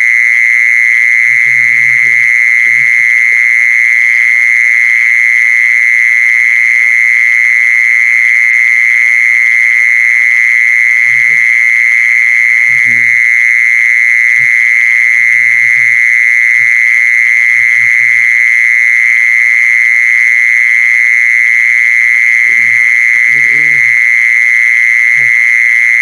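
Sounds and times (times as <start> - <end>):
mole cricket trilling: 0.0 - 26.0.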